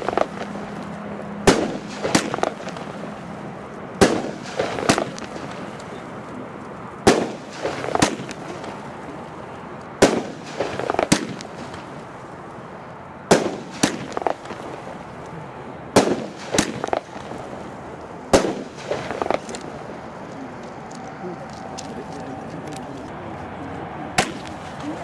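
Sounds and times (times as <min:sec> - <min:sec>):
fireworks bangs: 0:00.0 - 0:06.2, 0:07.0 - 0:12.2, 0:13.3 - 0:15.0, 0:15.9 - 0:17.6, 0:18.3 - 0:23.0, 0:24.1 - 0:25.0
fireworks crackle: 0:00.0 - 0:25.0.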